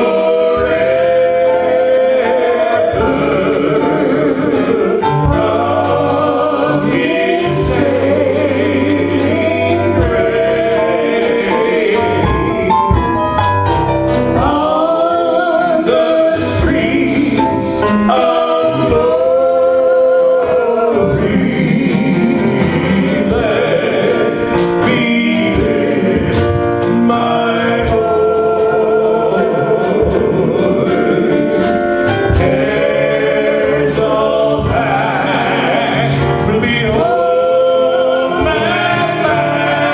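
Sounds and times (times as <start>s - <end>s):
gospel choir singing: 0.0s - 39.9s
instrumental accompaniment: 0.0s - 39.9s.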